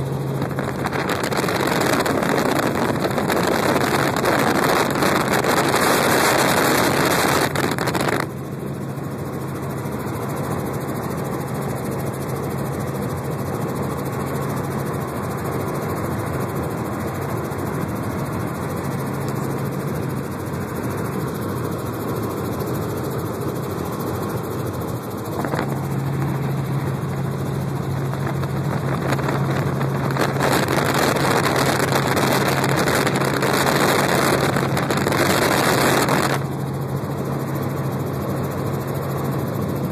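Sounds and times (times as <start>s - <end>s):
helicopter engine and rotor droning: 0.0s - 39.9s.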